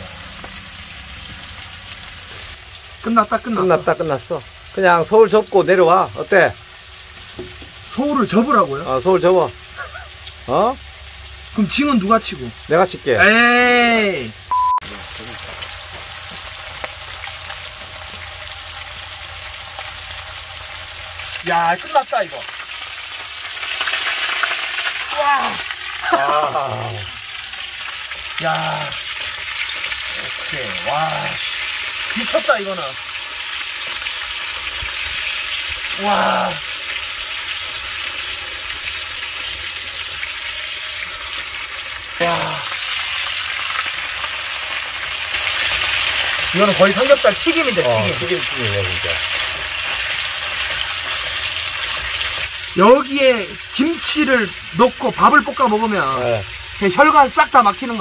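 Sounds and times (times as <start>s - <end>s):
pork sizzling in a frying pan: 0.0s - 58.0s.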